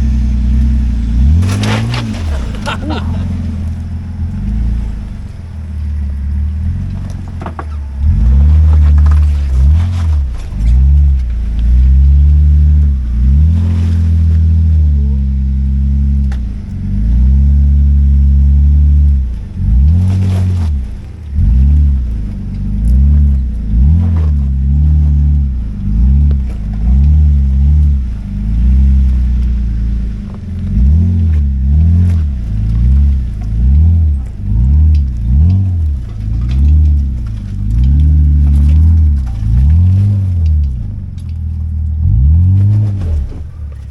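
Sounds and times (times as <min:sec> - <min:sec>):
vehicle engine revving: 0:00.0 - 0:43.9.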